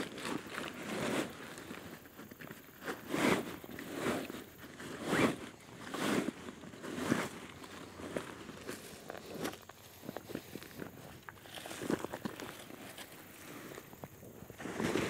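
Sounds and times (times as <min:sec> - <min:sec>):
canvas rasping on wooden poles: 0:00.0 - 0:15.0.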